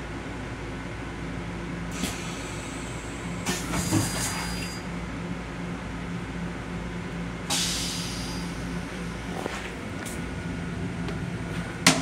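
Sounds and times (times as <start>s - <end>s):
railcar low hum: 0.0s - 12.0s.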